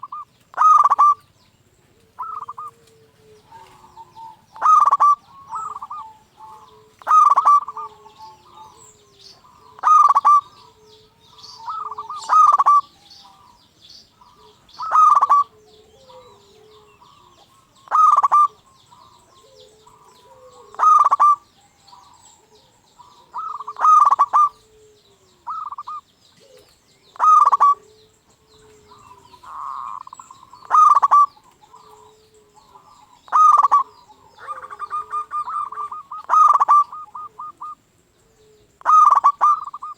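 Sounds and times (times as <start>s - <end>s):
dove cooing: 0.0s - 39.9s
other birds chirping faintly: 0.0s - 39.9s.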